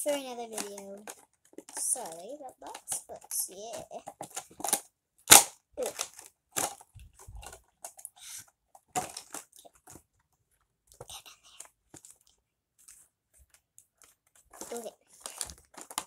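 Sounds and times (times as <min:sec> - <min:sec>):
plastic packaging crinkling: 0:00.0 - 0:08.3, 0:08.9 - 0:10.0, 0:11.9 - 0:16.0.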